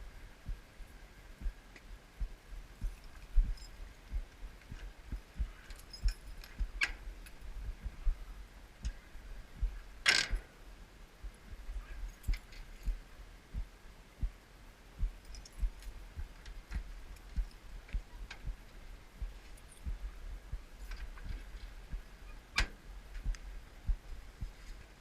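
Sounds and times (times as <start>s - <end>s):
low thumps: 1.4s - 10.5s, 11.2s - 24.6s.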